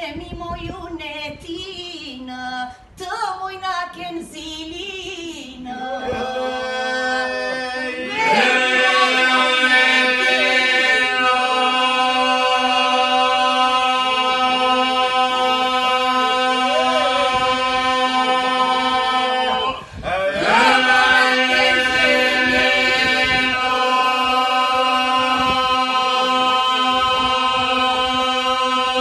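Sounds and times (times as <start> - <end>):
group singing a capella: 5.6 - 29.0
sustained vocal drone: 5.6 - 29.0.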